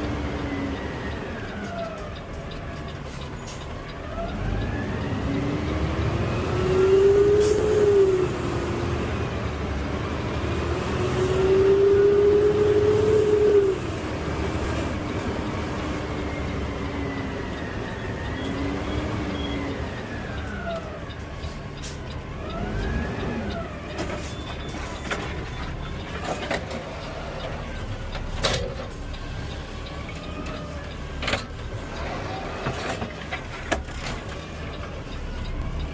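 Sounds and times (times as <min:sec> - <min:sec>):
garbage truck engine accelerating: 0:00.0 - 0:35.9.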